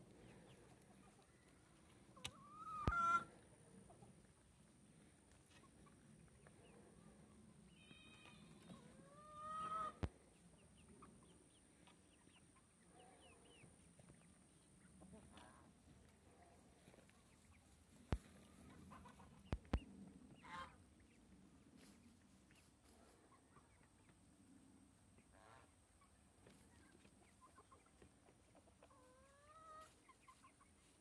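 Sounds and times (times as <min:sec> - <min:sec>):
chicks peeping and calling: 0:00.0 - 0:31.0.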